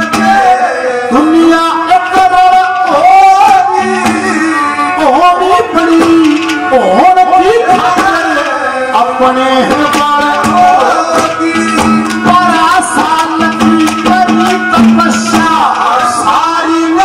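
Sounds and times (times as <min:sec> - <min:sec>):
hand drum: 0:00.0 - 0:00.8, 0:01.9 - 0:17.0
man singing into a microphone: 0:00.0 - 0:17.0.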